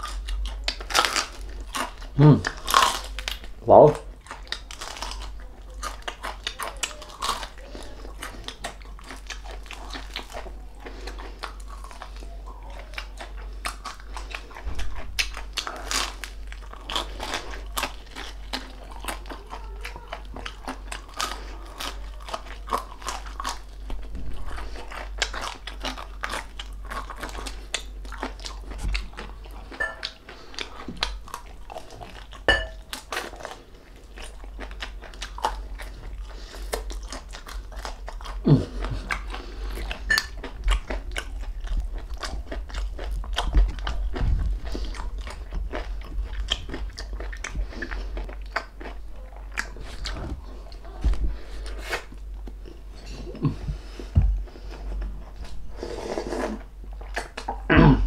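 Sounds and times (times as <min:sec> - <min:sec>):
person chewing crispy food: 0:00.0 - 0:58.0.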